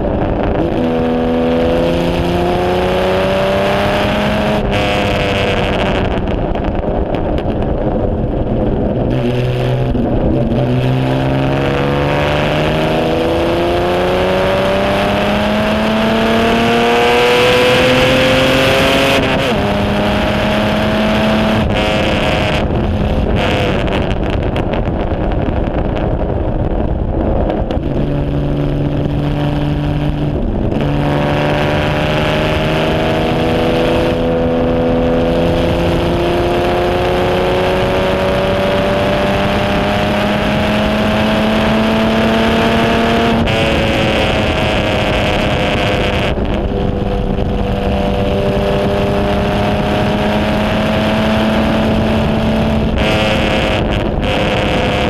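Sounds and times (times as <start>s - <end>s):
racing engine pulling hard: 0.0s - 55.0s
wind rush: 0.0s - 55.0s.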